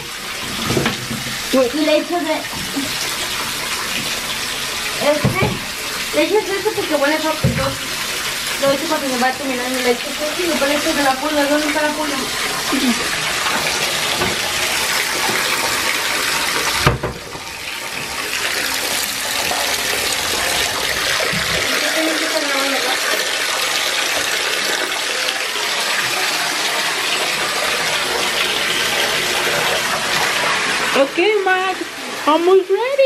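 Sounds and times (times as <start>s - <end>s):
water pouring into a bathtub: 0.0s - 33.0s.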